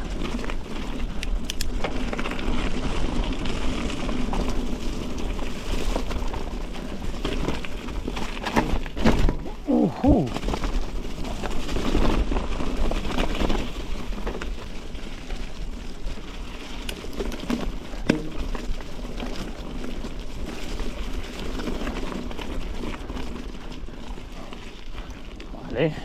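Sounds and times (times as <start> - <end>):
bike tyres on muddy trail: 0.0 - 26.0.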